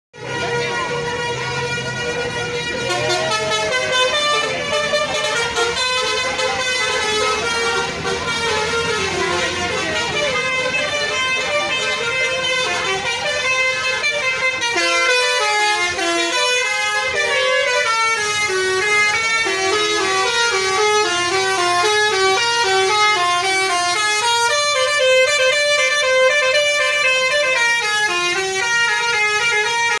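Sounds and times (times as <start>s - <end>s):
multi-tone bus air horn tune: 0.2s - 30.0s.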